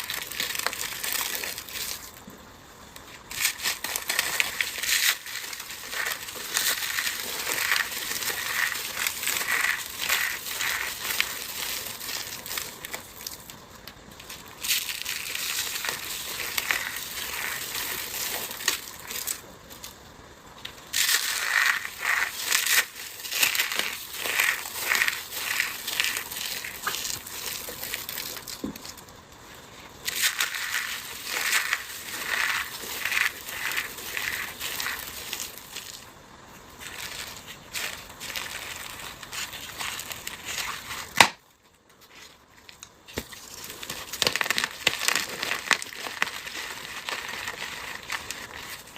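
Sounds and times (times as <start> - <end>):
dry material crunching: 0.0 - 20.0, 20.6 - 48.9.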